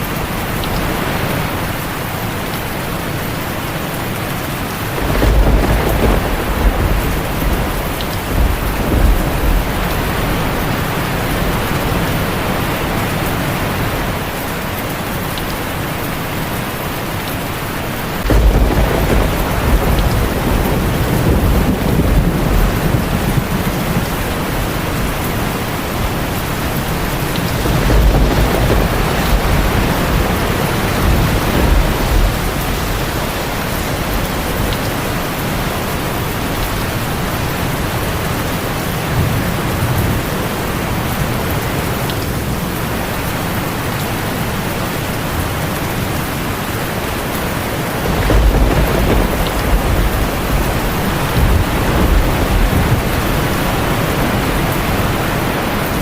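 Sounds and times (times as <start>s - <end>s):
heavy rain on a tin roof: 0.0s - 56.0s
thunder rumbling: 3.2s - 56.0s.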